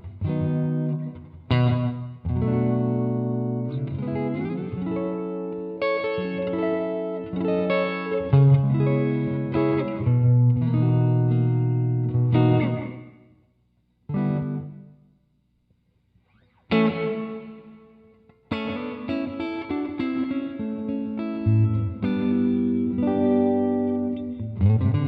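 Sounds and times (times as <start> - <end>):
electric guitar with reverb: 0.0 - 15.2, 16.2 - 25.0.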